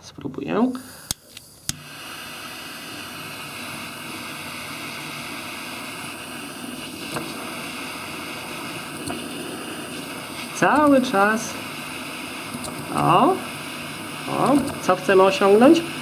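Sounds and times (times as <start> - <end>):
jet torch hissing: 0.6 - 16.0.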